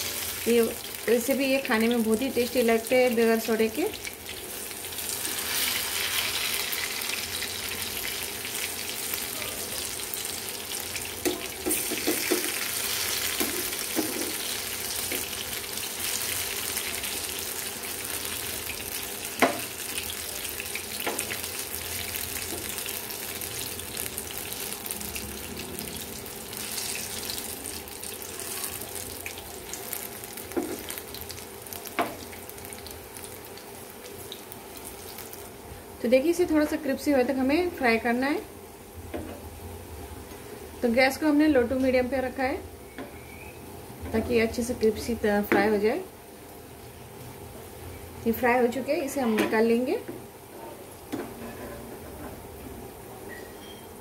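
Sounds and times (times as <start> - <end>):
onion rings sizzling in oil: 0.0 - 38.5, 40.8 - 52.0.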